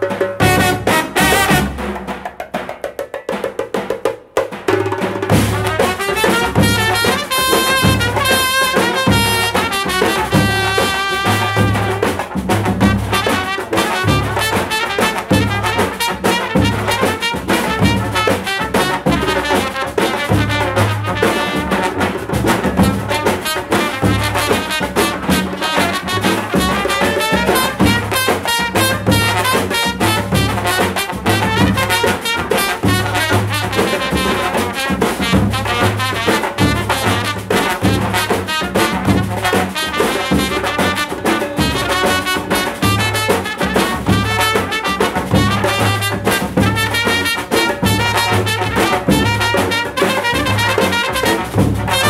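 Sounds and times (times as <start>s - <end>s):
brass band playing: 0.0s - 2.3s, 4.9s - 52.0s
drums keeping beat: 0.0s - 52.0s.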